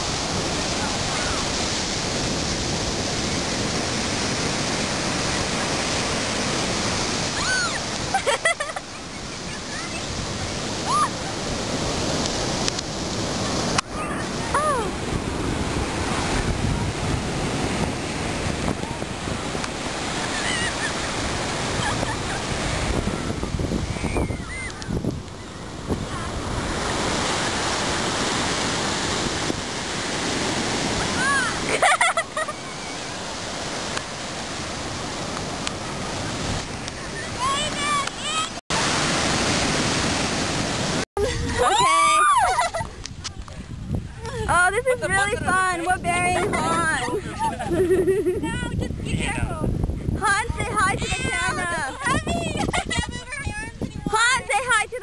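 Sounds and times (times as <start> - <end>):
ocean surf: 0.0 - 55.0
wind: 0.0 - 55.0.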